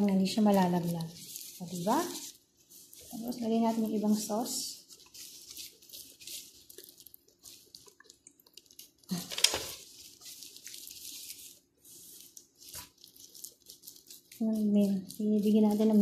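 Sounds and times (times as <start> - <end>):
gloved hands squelching marinade: 0.0 - 16.0.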